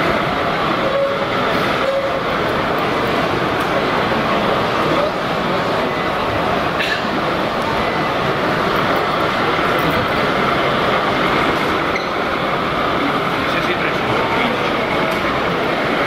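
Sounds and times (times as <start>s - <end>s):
hubbub of indistinct voices: 0.0s - 16.0s.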